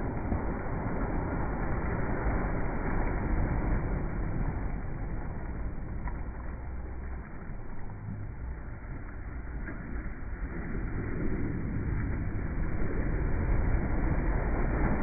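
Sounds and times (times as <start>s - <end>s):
waves washing onto sand: 0.0s - 8.0s, 10.4s - 15.0s.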